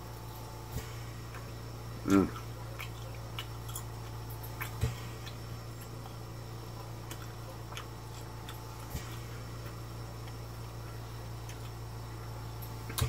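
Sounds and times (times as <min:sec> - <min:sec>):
low hum: 0:00.0 - 0:13.0
close-up chewing: 0:00.4 - 0:13.0.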